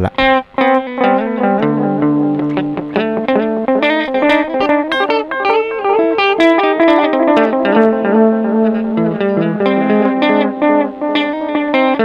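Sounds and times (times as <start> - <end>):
electric guitar notes with echo: 0.0 - 12.0.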